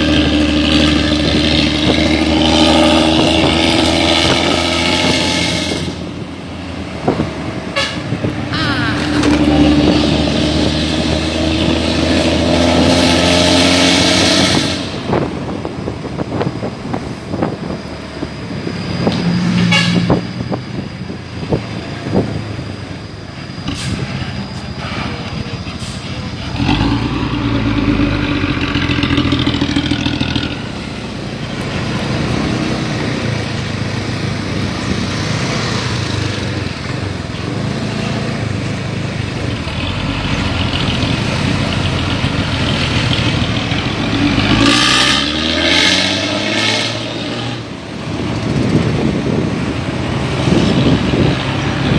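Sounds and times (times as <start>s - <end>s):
bus engine revving: 0.0s - 51.9s.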